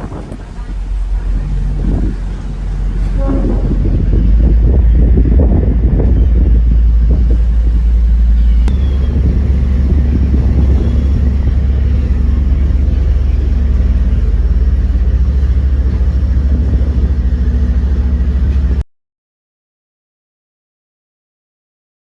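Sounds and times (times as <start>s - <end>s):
vehicle rumble: 0.0s - 18.8s.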